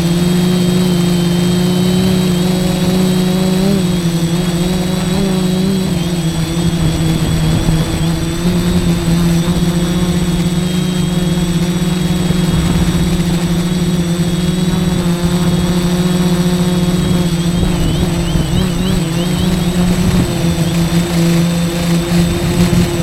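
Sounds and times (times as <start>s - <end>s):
drone motors humming: 0.0s - 23.0s.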